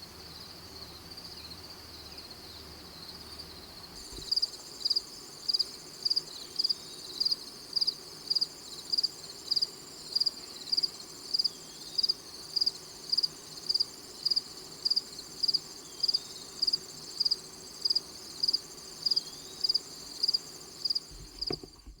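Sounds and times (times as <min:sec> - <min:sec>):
insects trilling: 0:00.0 - 0:21.6
crickets chirping: 0:00.0 - 0:22.0.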